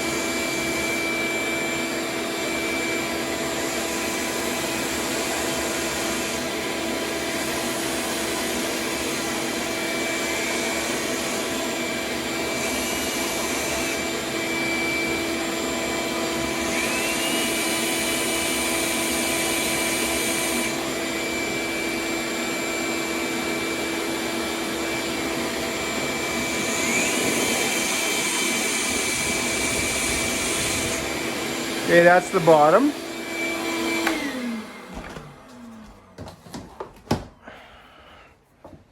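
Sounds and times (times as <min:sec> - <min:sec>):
vacuum running: 0:00.0 - 0:38.8.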